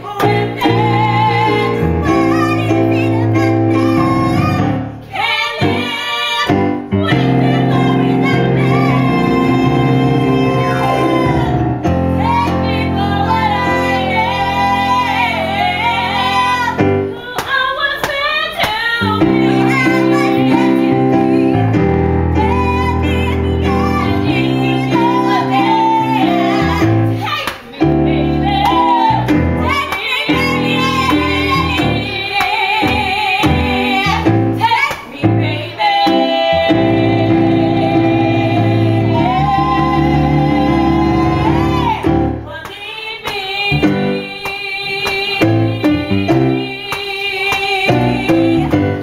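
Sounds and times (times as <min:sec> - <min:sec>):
piano chords: 0:00.0 - 0:17.4, 0:18.8 - 0:42.6, 0:43.6 - 0:49.0
woman singing with vibrato: 0:00.0 - 0:49.0.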